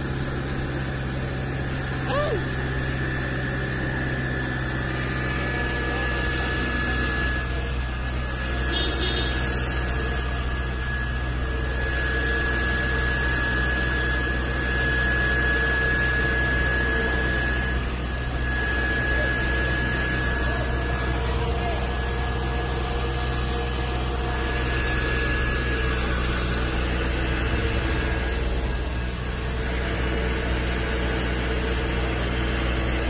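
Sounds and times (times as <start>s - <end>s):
engine drone: 0.0s - 33.0s
high whine: 0.0s - 33.0s.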